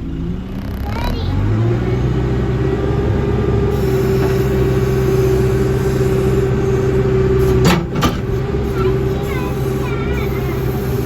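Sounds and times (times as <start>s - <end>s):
heavy engine revving: 0.0s - 11.0s.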